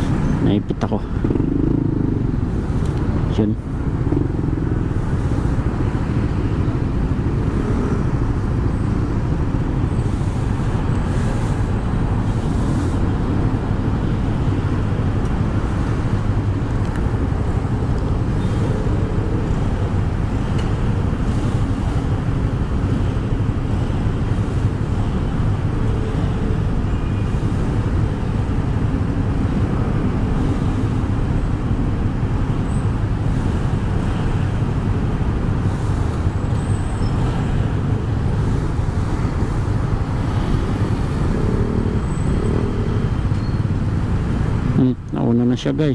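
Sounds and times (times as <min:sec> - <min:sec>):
scooter engine noise: 0:00.0 - 0:44.9
road traffic rumble: 0:00.0 - 0:45.9.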